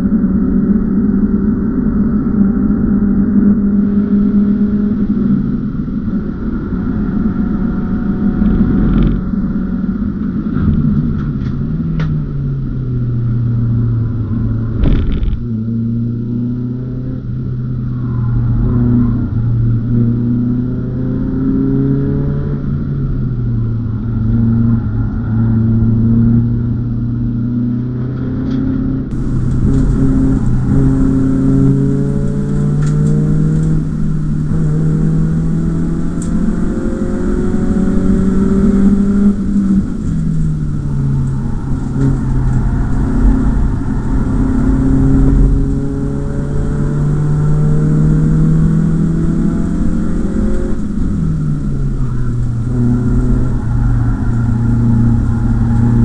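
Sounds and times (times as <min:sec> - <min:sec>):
car engine revving under load: 0:00.0 - 0:56.0.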